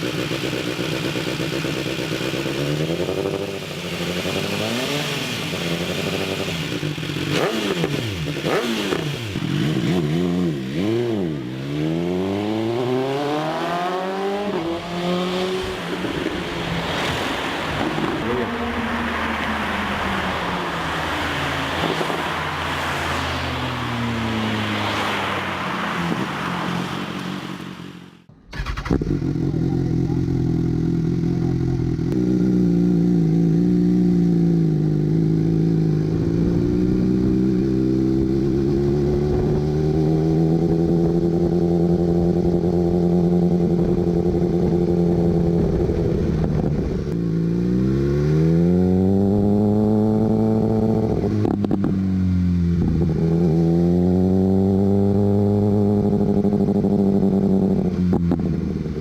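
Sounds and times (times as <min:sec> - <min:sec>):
motorcycle engine revving: 0:00.0 - 0:26.2, 0:27.3 - 0:59.0.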